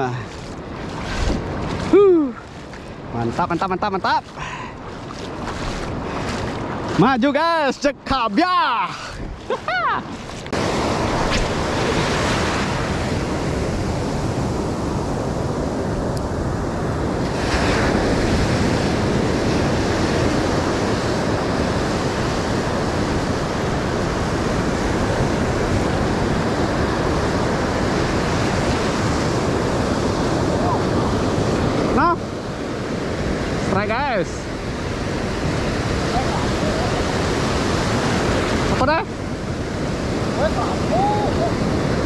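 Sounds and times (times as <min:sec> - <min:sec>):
wind buffeting microphone: 0:00.0 - 0:07.2, 0:09.1 - 0:42.0
ocean surf breaking: 0:00.0 - 0:42.0.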